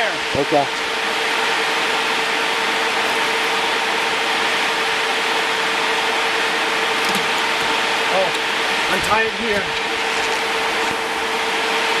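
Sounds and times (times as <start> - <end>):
small motor blower running: 0.0 - 12.0.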